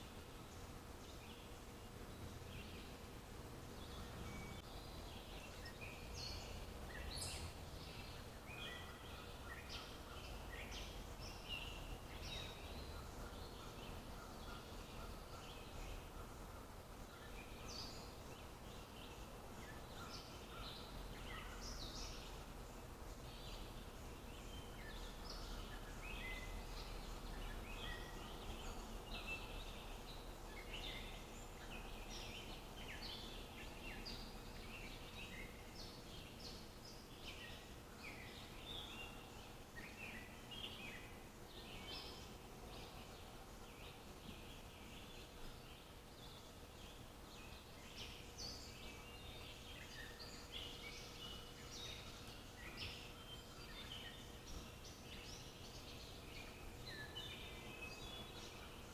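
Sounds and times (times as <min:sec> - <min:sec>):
wild birds chirping: 0:00.0 - 0:58.9.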